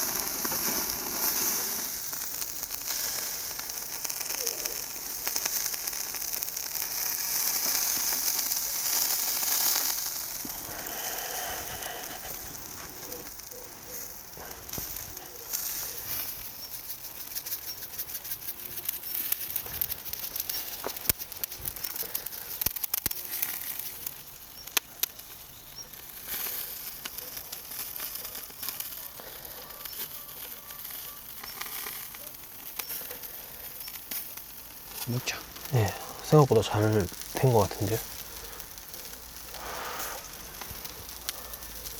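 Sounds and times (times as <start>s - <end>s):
fire crackling and popping: 0.0s - 41.9s
meat sizzling over charcoal: 0.0s - 41.9s.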